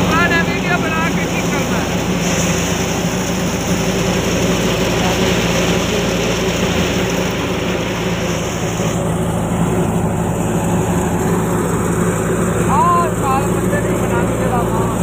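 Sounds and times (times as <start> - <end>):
thresher machine running: 0.0 - 15.0.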